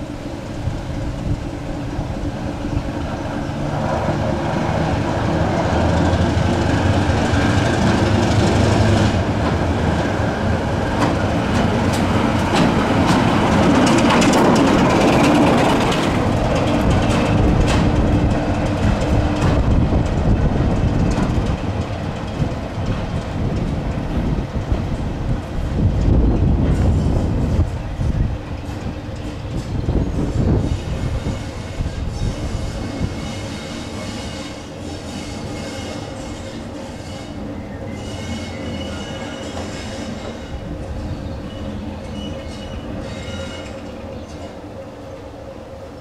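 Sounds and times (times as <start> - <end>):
diesel locomotive engine: 0.0 - 46.0
train wheels clicking over rail joints: 0.6 - 44.6.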